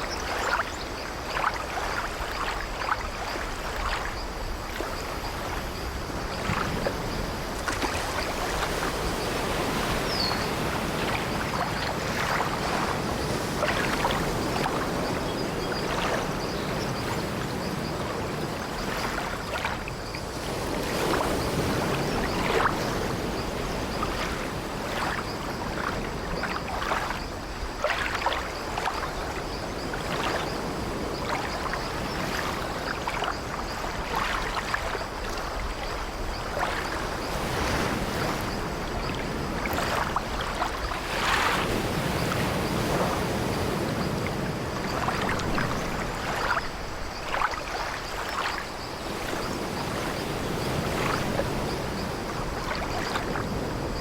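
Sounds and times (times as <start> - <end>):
sea waves washing: 0.0 - 54.0.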